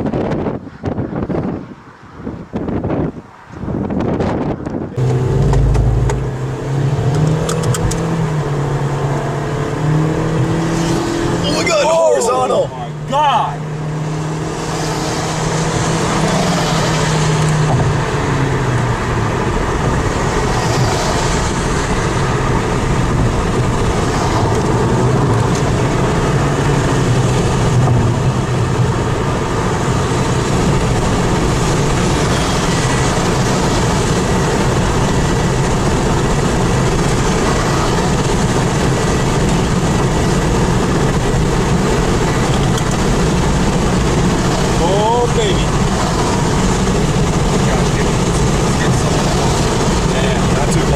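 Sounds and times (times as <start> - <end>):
car driving on highway: 0.0 - 50.9.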